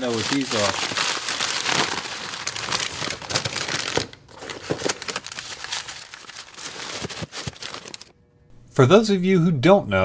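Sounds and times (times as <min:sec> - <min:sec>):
packaging crinkling: 0:00.0 - 0:08.1.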